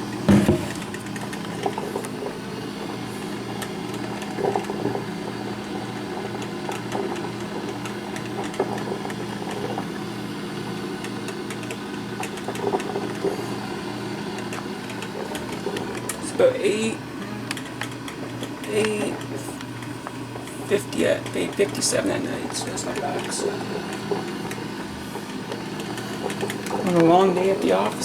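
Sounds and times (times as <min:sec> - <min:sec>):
coffee maker humming and pulsing: 0:00.0 - 0:28.0
coffee maker bursts: 0:00.1 - 0:28.0.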